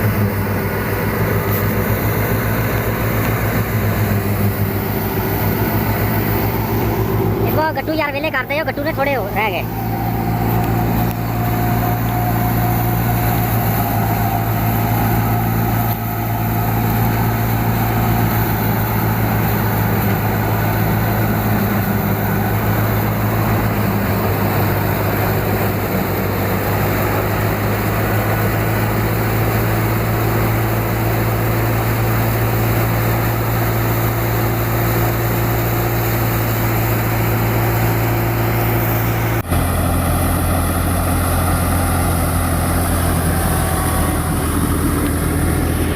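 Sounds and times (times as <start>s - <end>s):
tractor engine drone: 0.0s - 45.9s.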